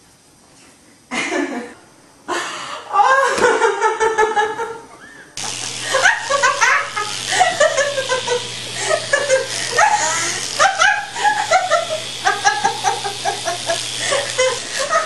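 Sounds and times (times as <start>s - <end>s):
person laughing and squealing: 2.8s - 15.0s.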